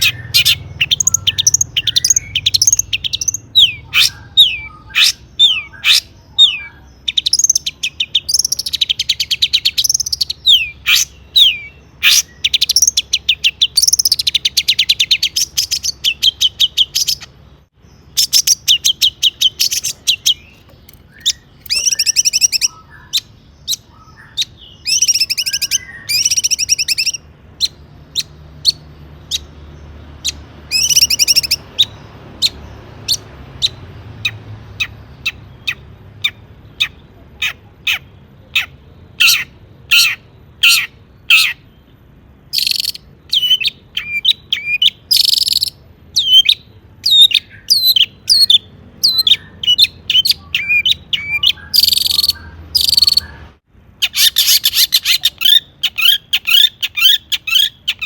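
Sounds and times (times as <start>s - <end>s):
shrike singing: 0.0s - 58.0s.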